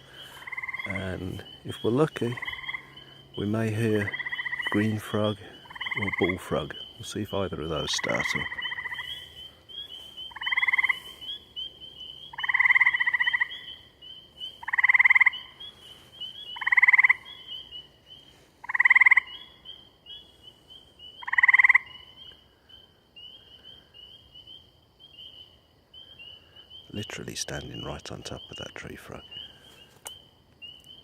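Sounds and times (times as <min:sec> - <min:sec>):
chorus of peeping frogs: 0:00.0 - 0:31.0
tree frog trilling: 0:00.0 - 0:31.0.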